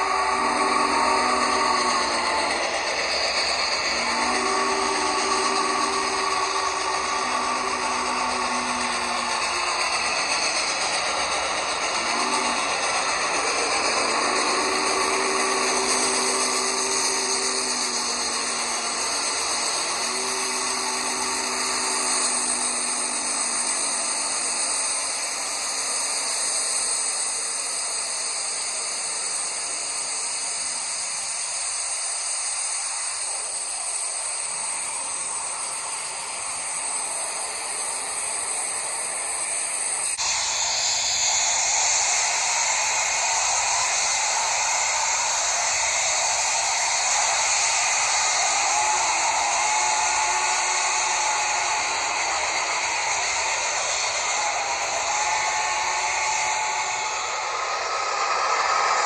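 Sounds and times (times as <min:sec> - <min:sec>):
steam hissing: 0:00.0 - 0:59.0
steam locomotive chime whistle: 0:00.0 - 0:59.0.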